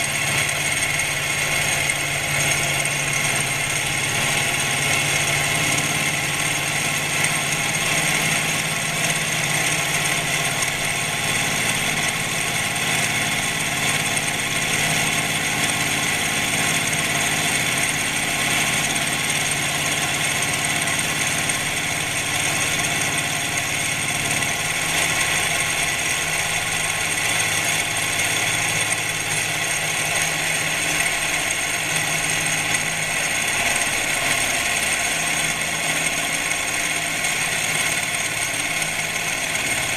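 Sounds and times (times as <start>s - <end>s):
milling machine hum: 0.0s - 39.9s
whining tones from spindle: 0.0s - 39.9s.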